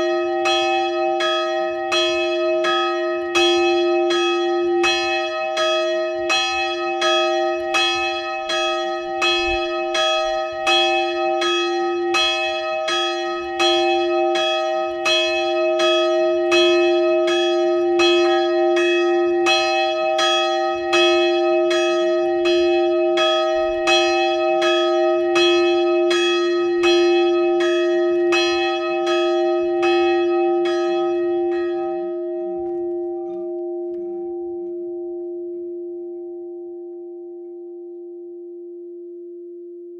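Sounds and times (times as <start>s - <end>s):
bell hum: 0.0s - 39.9s
church bell ringing: 0.0s - 39.9s.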